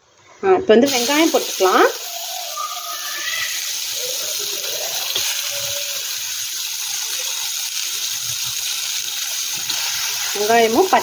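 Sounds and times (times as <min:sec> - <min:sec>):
onions sizzling in oil: 0:00.8 - 0:11.0.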